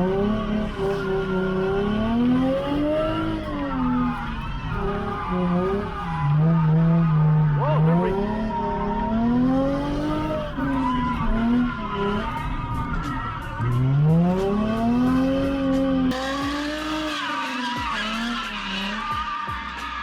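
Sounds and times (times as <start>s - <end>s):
car engine revving: 0.0s - 20.0s
tyres skidding: 0.0s - 20.0s.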